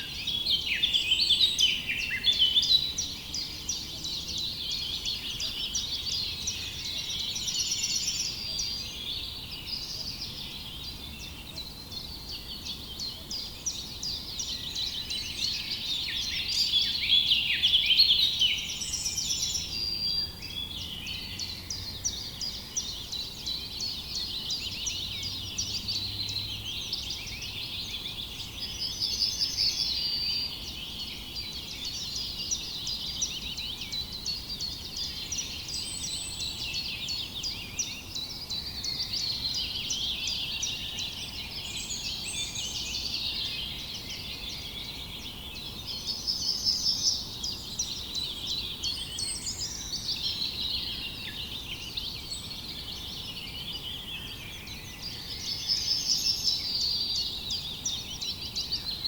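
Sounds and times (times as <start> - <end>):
songbirds chirping in chorus: 0.0 - 59.0.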